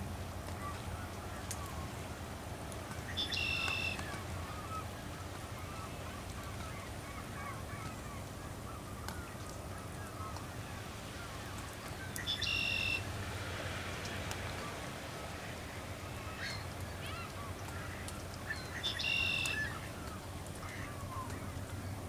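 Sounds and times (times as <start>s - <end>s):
waterbirds calling: 0.4s - 22.0s.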